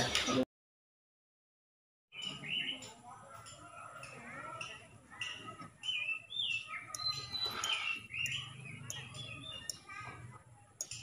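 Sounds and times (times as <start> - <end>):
small birds chirping: 2.1 - 11.0.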